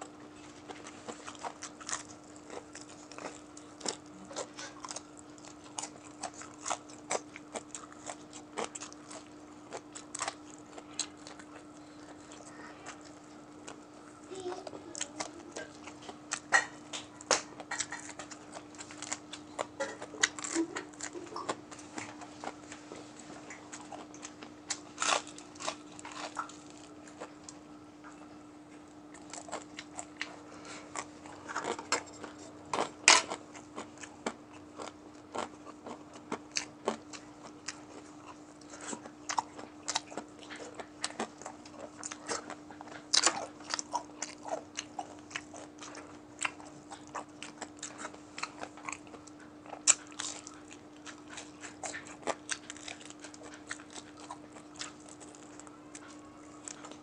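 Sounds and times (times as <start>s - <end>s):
crunching and chewing fried chicken: 0.0s - 57.0s
steady low hum: 0.0s - 57.0s.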